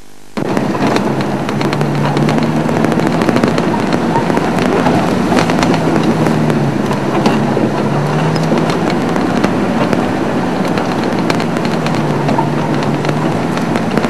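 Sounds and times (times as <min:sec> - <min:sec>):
vehicle engine humming: 0:00.0 - 0:14.0
small clicks and knocks: 0:00.4 - 0:14.0.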